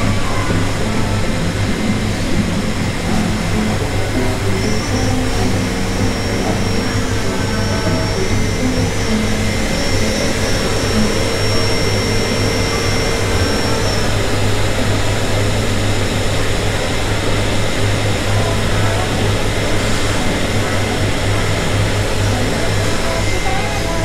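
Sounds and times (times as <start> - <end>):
cotton candy machine whirring: 0.0 - 24.0
faint whine: 0.0 - 24.0.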